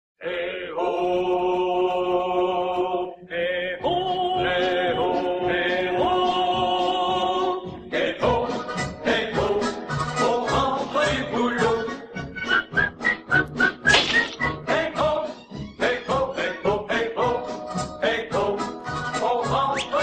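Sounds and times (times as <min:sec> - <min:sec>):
voices singing long held notes: 0:00.2 - 0:12.2, 0:14.7 - 0:20.0.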